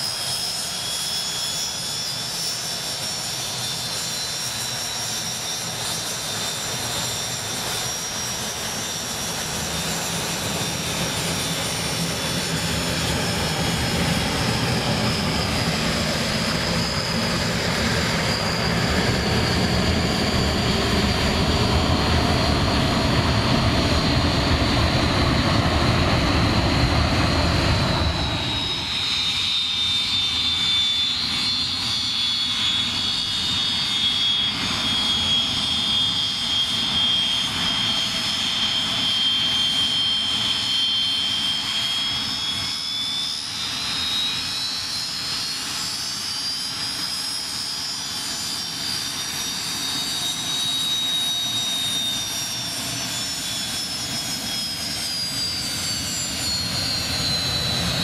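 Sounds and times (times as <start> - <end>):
jet engine low rumble: 0.0 - 58.0
jet engine whine: 0.0 - 58.0.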